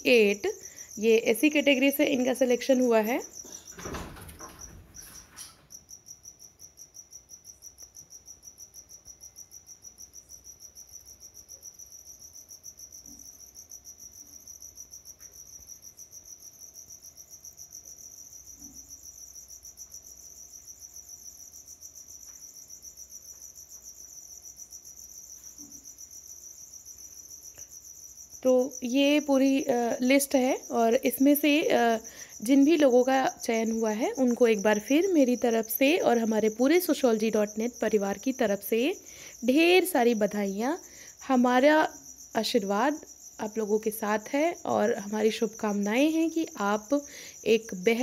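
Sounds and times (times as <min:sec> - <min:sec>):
cricket chirping: 0:00.0 - 0:48.0.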